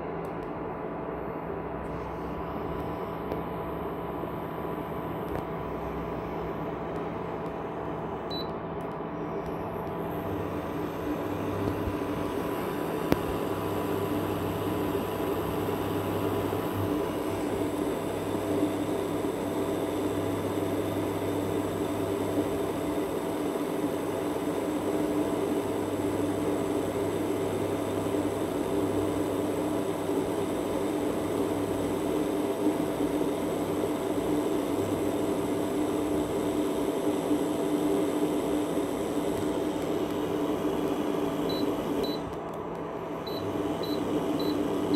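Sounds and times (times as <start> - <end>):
induction cooktop fan hum: 0.0 - 44.9.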